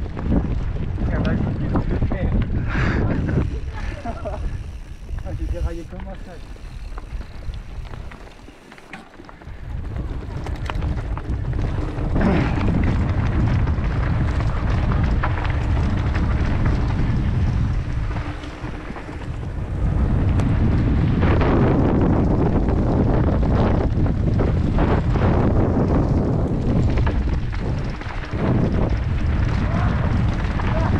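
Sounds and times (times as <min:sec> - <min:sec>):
wind buffeting microphone: 0:00.0 - 0:08.6, 0:09.4 - 0:30.9
bike rattling over bumps: 0:00.0 - 0:30.9
tyres rumbling on dirt: 0:00.0 - 0:30.9.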